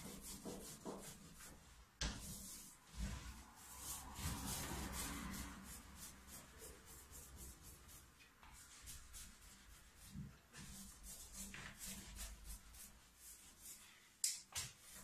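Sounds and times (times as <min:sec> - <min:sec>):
brush scrubbing on paper: 0:00.0 - 0:14.1.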